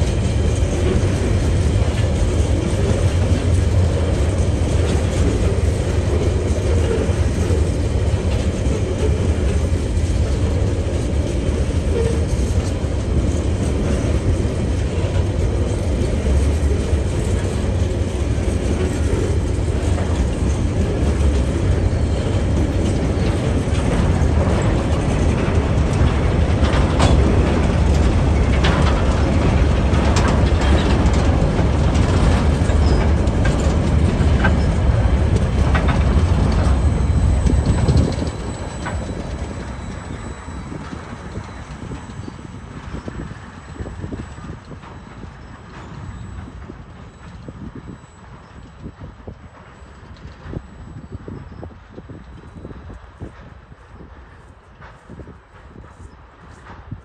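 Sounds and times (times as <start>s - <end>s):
clicks and clanks of wagons: 0.0s - 57.0s
freight train wagons rolling past: 0.0s - 57.0s.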